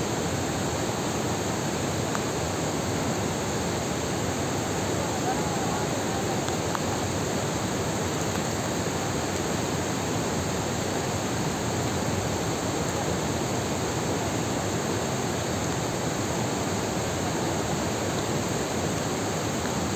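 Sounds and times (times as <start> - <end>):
waterfall rushing: 0.1 - 19.9.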